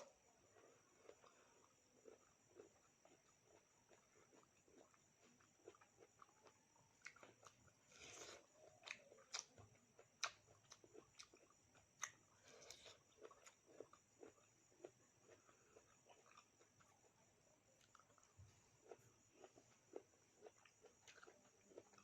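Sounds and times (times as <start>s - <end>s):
crunchy chewing and mouth clicks: 0.0s - 22.0s.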